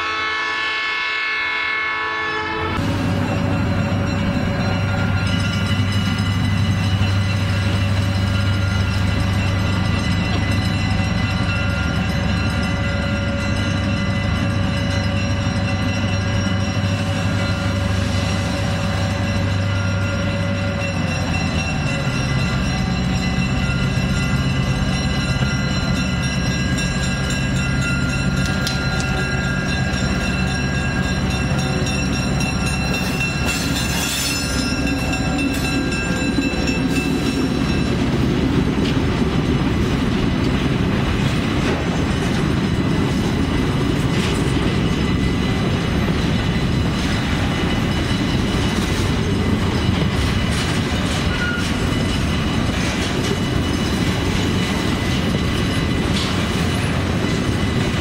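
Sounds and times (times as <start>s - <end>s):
rolling railcars rumble: 0.0s - 58.0s
locomotive engine drone: 2.4s - 58.0s
train wheels clicking over rail joints: 2.8s - 58.0s.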